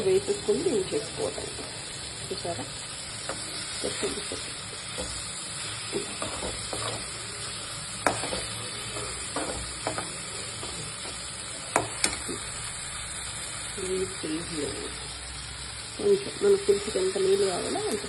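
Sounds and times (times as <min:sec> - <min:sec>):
curry sizzling: 0:00.0 - 0:18.0.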